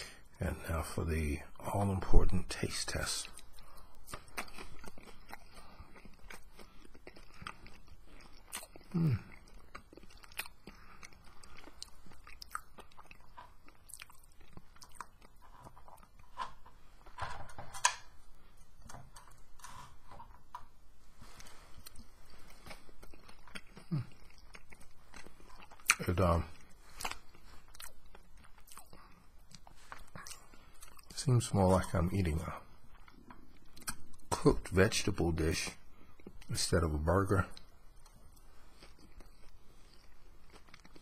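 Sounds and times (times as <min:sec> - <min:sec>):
person chewing soft food: 0:03.2 - 0:17.2, 0:17.8 - 0:34.8, 0:35.8 - 0:41.0.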